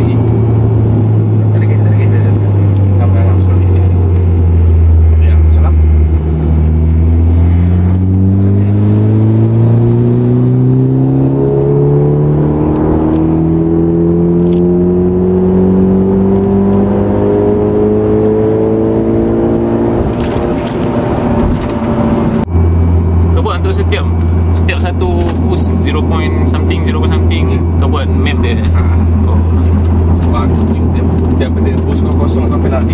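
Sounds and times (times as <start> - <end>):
turbocharged engine revving: 0.0 - 32.9.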